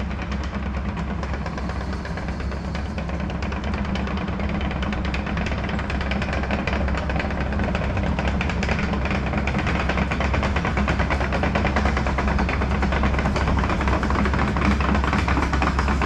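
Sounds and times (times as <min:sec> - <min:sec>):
diesel excavator engine running: 0:00.0 - 0:16.0.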